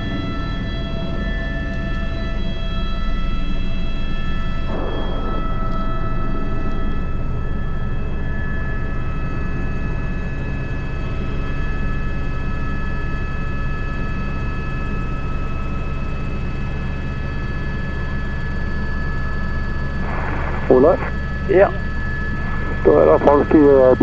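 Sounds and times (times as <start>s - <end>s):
helicopter rotor drone: 0.0s - 24.0s
turbine whine: 0.0s - 24.0s.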